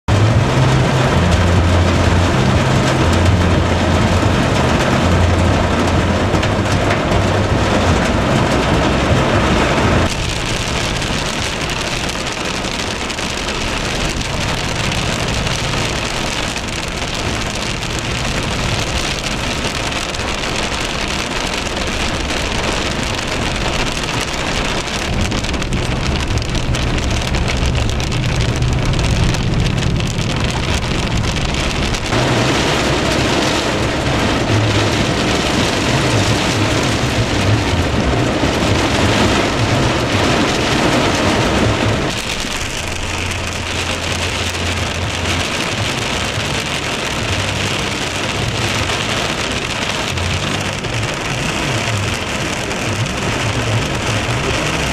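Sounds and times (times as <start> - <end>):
low vehicle hum: 0.0 - 54.9
heavy rain hissing: 0.1 - 54.9.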